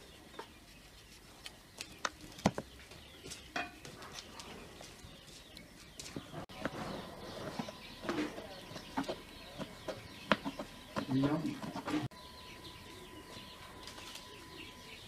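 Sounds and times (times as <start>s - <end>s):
faint birds calling: 0.0s - 15.0s.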